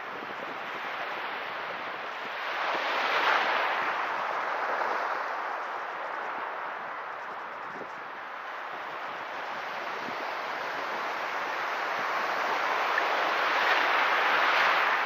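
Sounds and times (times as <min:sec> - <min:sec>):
surf washing up a beach: 0:00.0 - 0:15.0.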